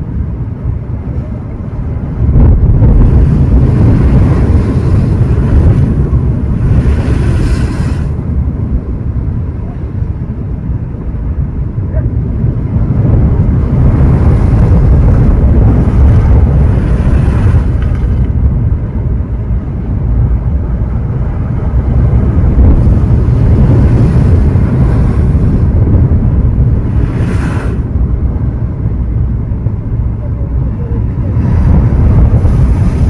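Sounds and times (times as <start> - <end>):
ocean surf breaking on shore: 0.0 - 33.0
wind rumble on microphone: 0.0 - 33.0.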